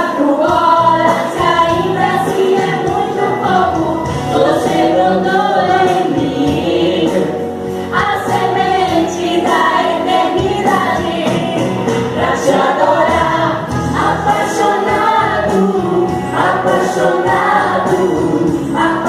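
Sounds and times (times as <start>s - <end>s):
choir singing gospel: 0.0s - 19.0s.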